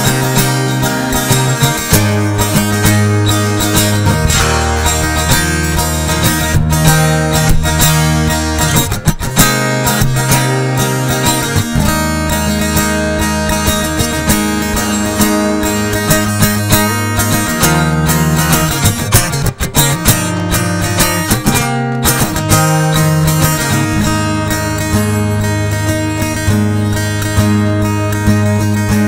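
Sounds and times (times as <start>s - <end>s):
sharp strike on guitar: 0.0s - 28.5s
fingerstyle acoustic guitar: 0.0s - 29.0s.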